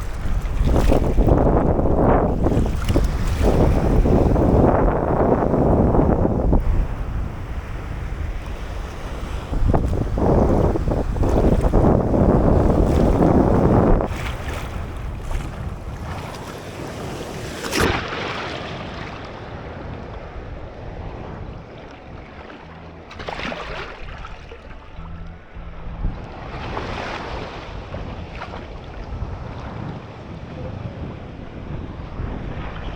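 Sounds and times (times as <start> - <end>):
small waves on sandy shore: 0.0 - 25.1, 26.1 - 32.9
wind buffeting microphone: 0.0 - 32.9.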